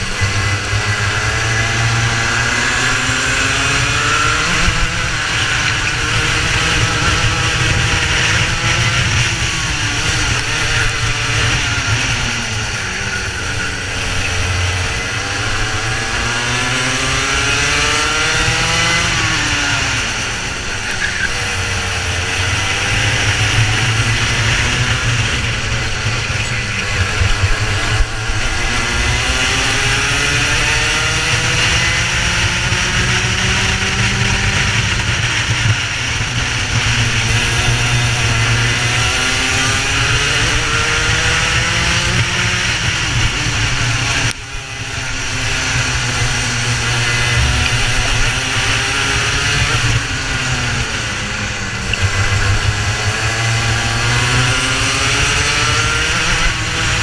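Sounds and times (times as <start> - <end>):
racing kart engine revving: 0.0 - 57.0.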